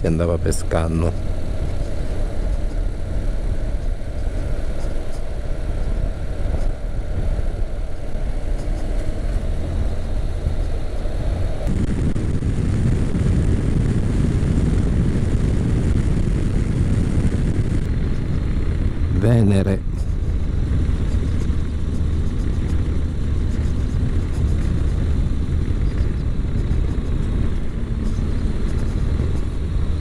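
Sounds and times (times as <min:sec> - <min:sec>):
motorcycle engine: 0:00.0 - 0:30.0
wind and road noise: 0:00.0 - 0:30.0.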